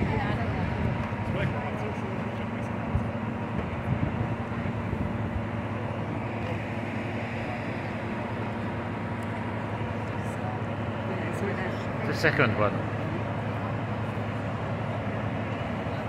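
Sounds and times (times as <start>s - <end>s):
train mechanical rumble with hiss: 0.0s - 16.0s.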